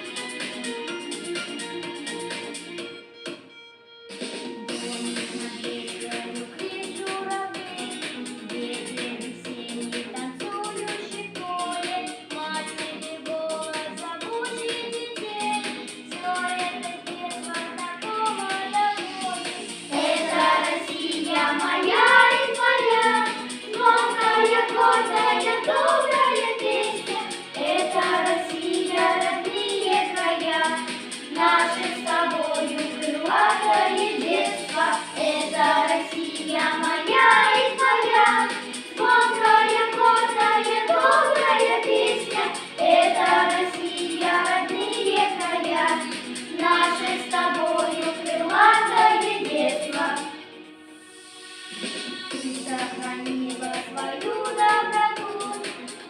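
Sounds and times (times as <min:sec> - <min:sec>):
children singing together: 0:04.8 - 0:50.4, 0:51.7 - 0:56.0.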